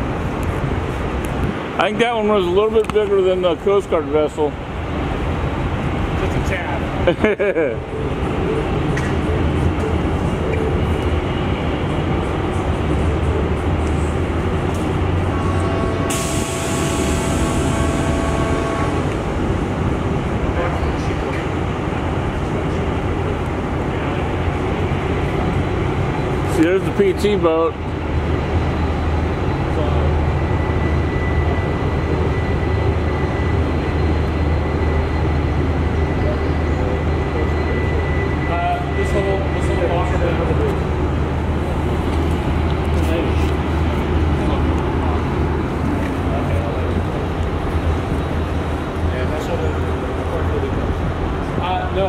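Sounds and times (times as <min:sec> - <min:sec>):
faint steady whine: 0:07.8 - 0:52.0
low mechanical rumble: 0:07.8 - 0:52.0.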